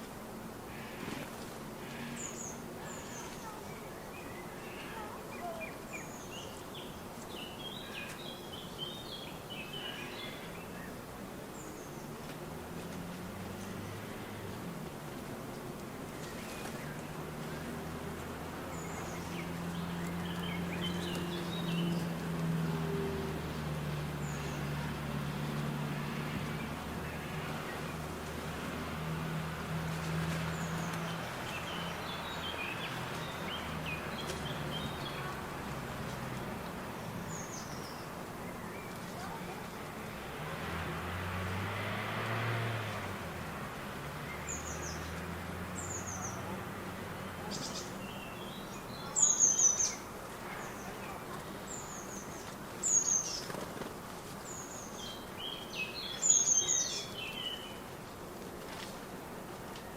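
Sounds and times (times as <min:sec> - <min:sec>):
outdoor background noise: 0:00.0 - 0:59.9
small birds chirping: 0:00.7 - 0:40.3, 0:43.4 - 0:59.9.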